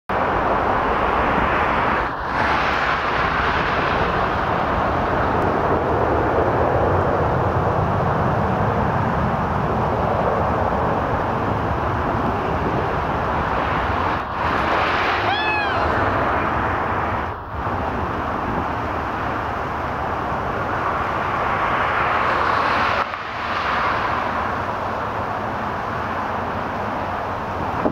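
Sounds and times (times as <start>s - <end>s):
jet engines rushing: 0.1s - 27.9s.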